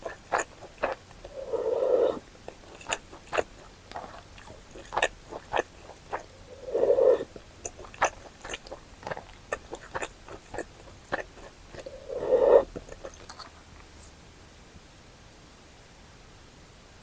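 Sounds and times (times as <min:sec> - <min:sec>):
person chewing: 0:00.0 - 0:14.1
slurps: 0:00.0 - 0:14.1
wet mouth clicks: 0:00.0 - 0:14.1.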